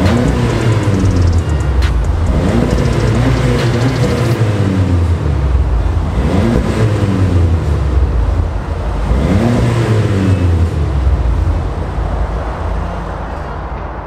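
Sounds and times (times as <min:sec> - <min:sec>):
car exhaust revving: 0:00.0 - 0:14.0.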